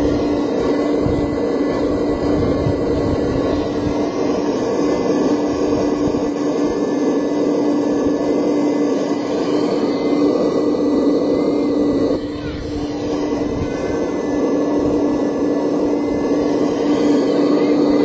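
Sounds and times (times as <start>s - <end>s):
toy excavator hydraulic pump hum: 0.0s - 18.0s.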